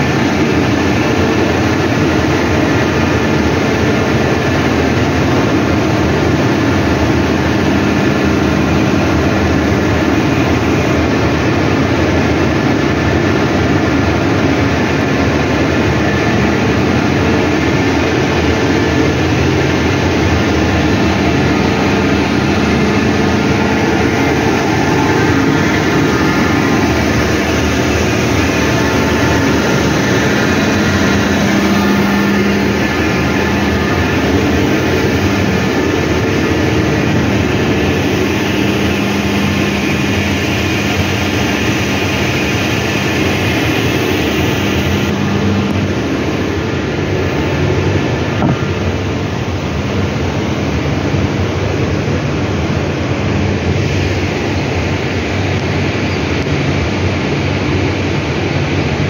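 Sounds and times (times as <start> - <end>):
industrial machinery drone: 0.0 - 59.0.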